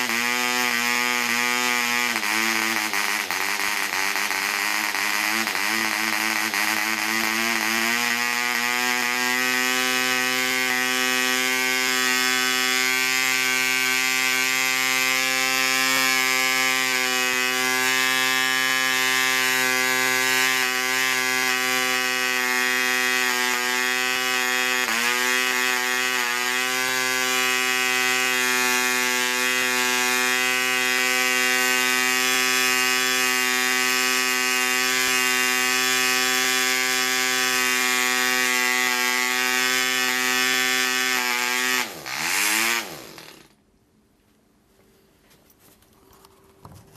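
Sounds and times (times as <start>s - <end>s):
model engine high-pitched buzz: 0.0s - 43.6s.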